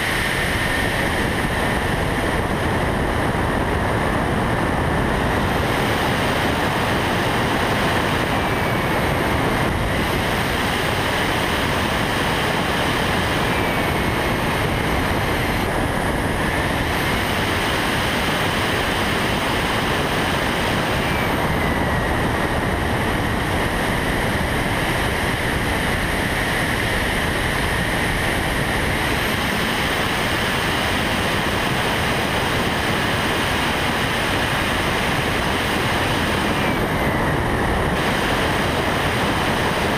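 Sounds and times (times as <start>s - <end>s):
high motor whine: 0.0s - 39.9s
rushing wind noise: 0.0s - 39.9s.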